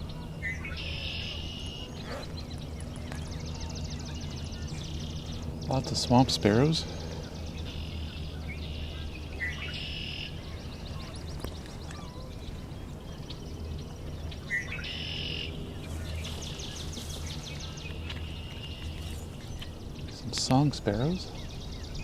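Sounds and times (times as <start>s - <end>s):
sparrows singing rapid trills: 0.0s - 22.0s
steady low rumble: 0.0s - 22.0s.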